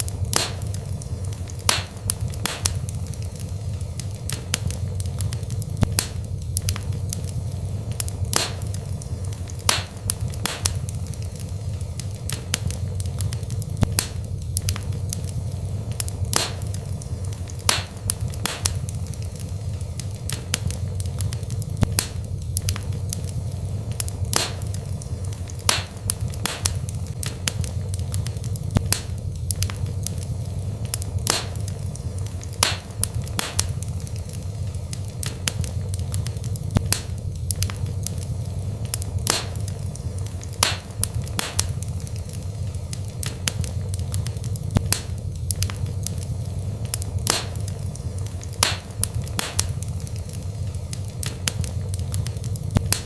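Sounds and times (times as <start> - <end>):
fire rumbling: 0.0 - 53.0
wood crackling and popping: 0.0 - 53.0.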